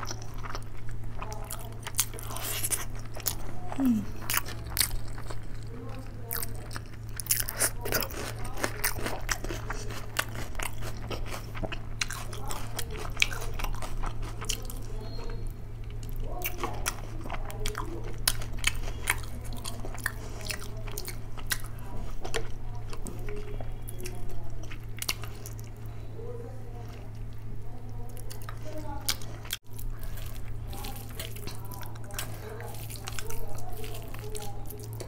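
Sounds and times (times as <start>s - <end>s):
wet chewing with mouth clicks: 0.0s - 26.0s, 26.6s - 35.0s
steady low hum: 0.0s - 35.0s.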